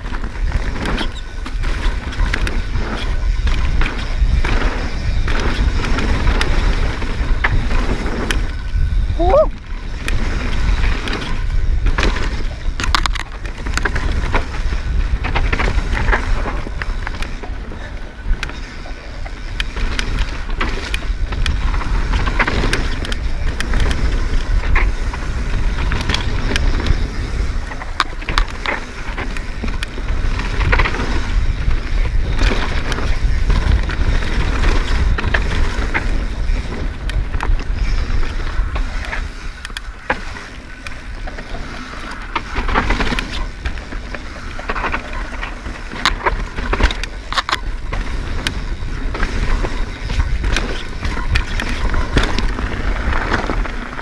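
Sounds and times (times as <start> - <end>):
bike chain and frame rattling: 0.0 - 54.0
tyres rumbling on dirt: 0.0 - 54.0
wind on microphone: 0.0 - 54.0.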